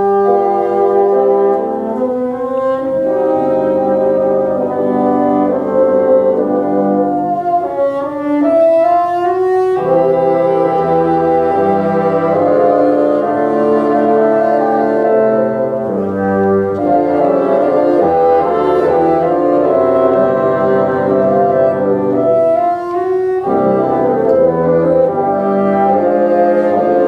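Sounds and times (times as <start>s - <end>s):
bassoon ensemble playing chords: 0.0s - 27.0s.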